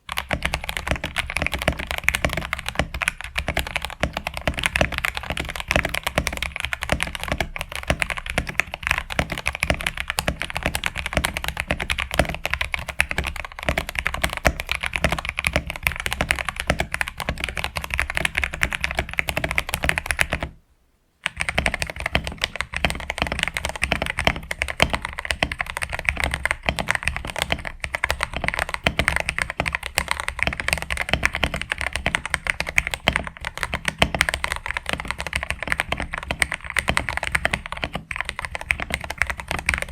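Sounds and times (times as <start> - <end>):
mechanical keyboard typing: 0.1 - 20.6, 21.2 - 39.9.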